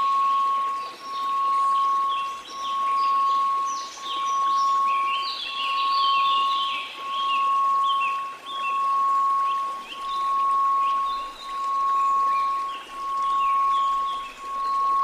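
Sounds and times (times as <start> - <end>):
faint white noise: 0.0 - 15.0
pulsing sine tone: 0.0 - 15.0.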